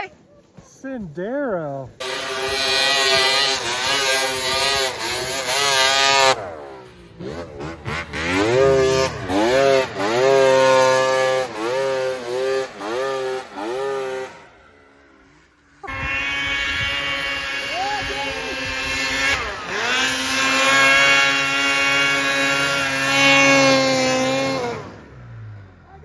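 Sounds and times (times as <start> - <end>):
snowmobile engine revving: 0.8 - 26.0.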